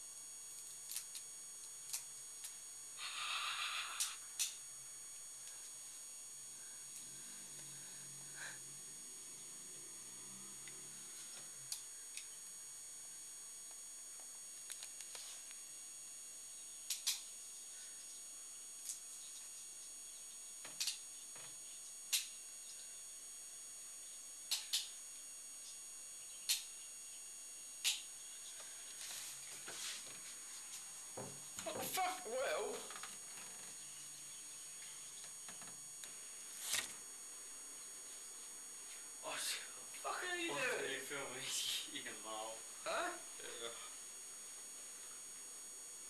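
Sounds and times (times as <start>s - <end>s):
faint high-pitched whine: 0.0s - 46.0s.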